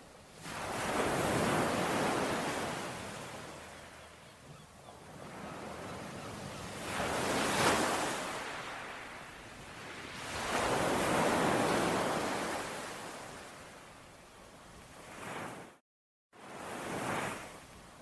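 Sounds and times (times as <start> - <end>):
waves breaking on shore: 0.0 - 13.9, 14.8 - 15.8, 16.4 - 18.0.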